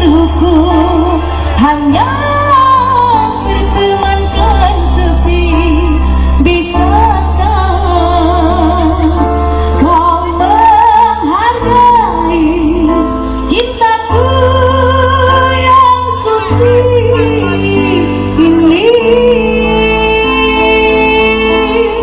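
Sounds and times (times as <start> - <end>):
woman singing with vibrato: 0.0 - 22.0.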